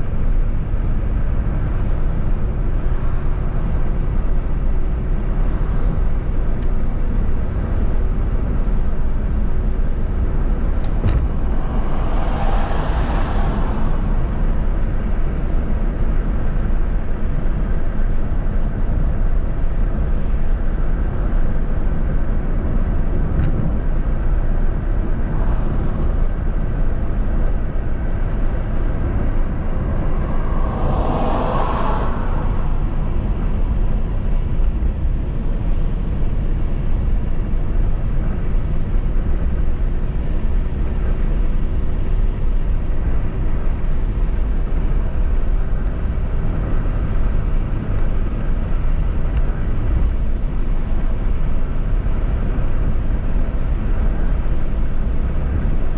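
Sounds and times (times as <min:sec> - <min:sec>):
passing vehicles: 0:00.0 - 0:55.9
tyre and wind rumble: 0:00.0 - 0:55.9.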